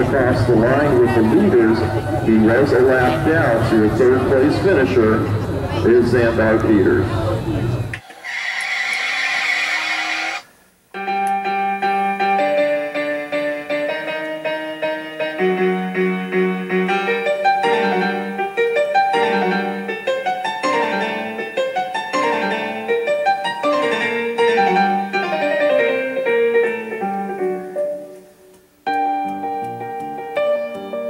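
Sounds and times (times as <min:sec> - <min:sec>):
piano music: 0:00.0 - 0:06.5, 0:11.0 - 0:31.0.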